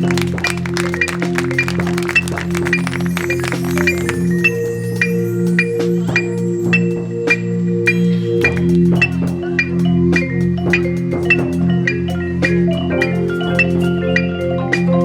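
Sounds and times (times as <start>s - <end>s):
mallet percussion strikes: 0.0s - 15.0s.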